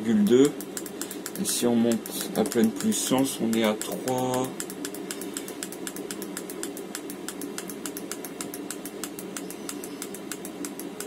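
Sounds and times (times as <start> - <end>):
heater fan humming: 0.0 - 11.0
fuel pump ticking: 0.2 - 11.0.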